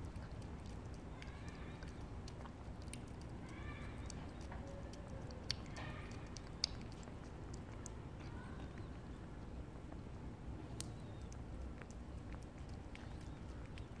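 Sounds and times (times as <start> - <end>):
cat chewing and lapping: 0.0 - 14.0
low background rumble: 0.0 - 14.0.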